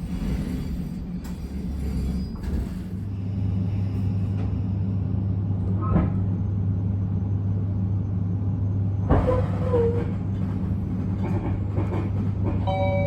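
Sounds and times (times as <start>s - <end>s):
train interior low hum: 0.0s - 13.0s.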